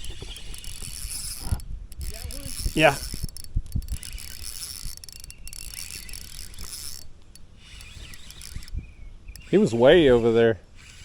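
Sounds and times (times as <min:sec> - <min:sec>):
fishing reel ratcheting: 0:00.0 - 0:11.0.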